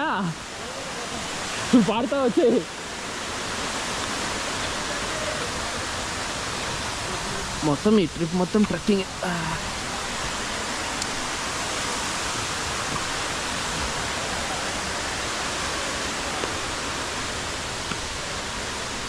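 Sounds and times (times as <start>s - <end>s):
waterfall roar: 0.0s - 19.0s.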